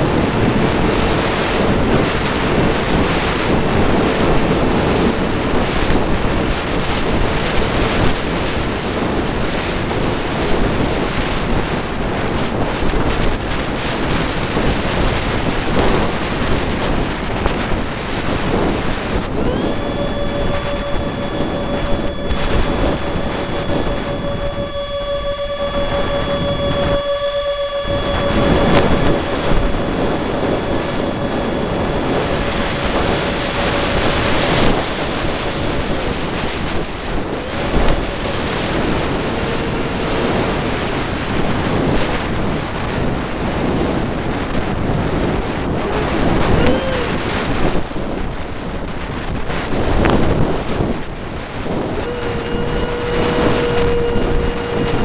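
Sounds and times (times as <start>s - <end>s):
model jet fan whine: 0.0s - 55.0s
wind buffeting microphone: 0.0s - 55.0s.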